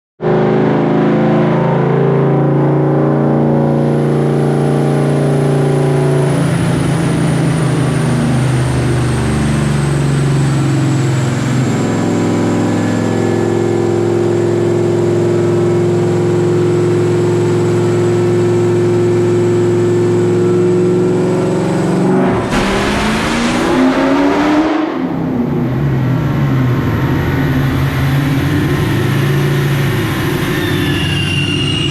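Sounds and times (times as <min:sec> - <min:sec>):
car engine running on a dyno: 0:00.2 - 0:31.9
engine misfire and backfire: 0:04.0 - 0:31.9.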